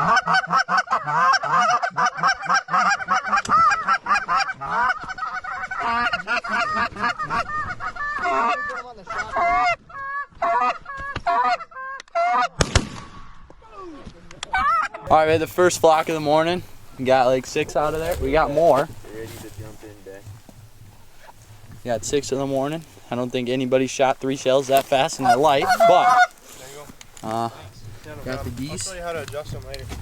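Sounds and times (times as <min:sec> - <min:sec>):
geese honking: 0:00.0 - 0:12.6, 0:14.5 - 0:29.6.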